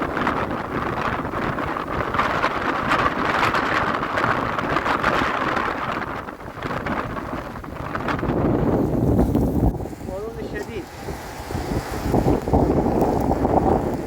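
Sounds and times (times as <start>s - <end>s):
floodwater rushing in river: 0.0s - 14.0s.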